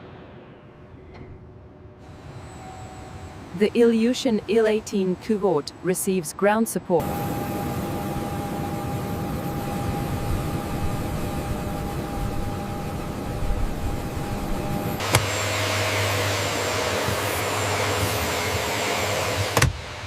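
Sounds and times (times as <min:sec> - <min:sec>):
low hum: 0:00.0 - 0:20.0
machine noise with high whine: 0:00.0 - 0:20.0.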